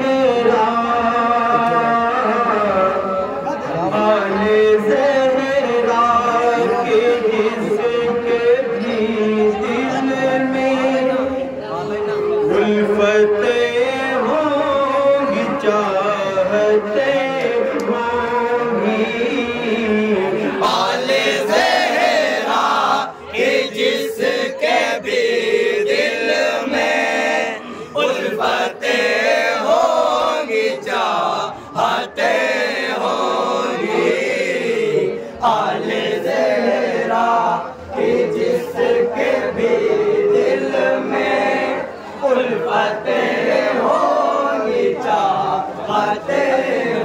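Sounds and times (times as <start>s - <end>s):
devotional chanting: 0.0s - 47.0s.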